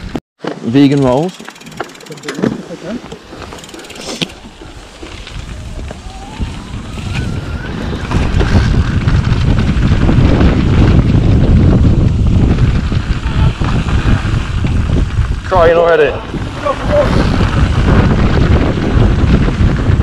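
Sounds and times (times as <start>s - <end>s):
bike rattling over rough ground: 0.0s - 20.0s
wind buffeting microphone: 1.6s - 20.0s.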